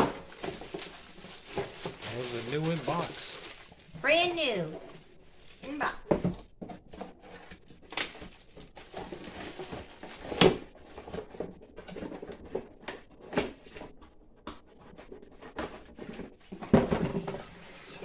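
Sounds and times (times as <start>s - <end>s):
cardboard and plastic rustling: 0.0s - 18.0s.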